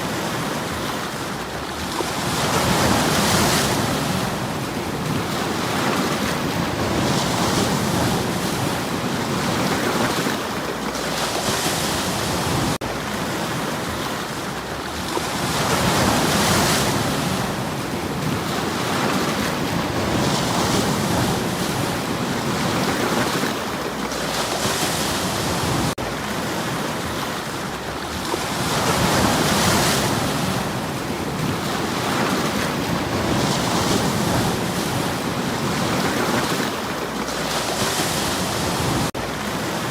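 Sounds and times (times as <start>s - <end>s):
waves washing over stones: 0.0s - 39.9s.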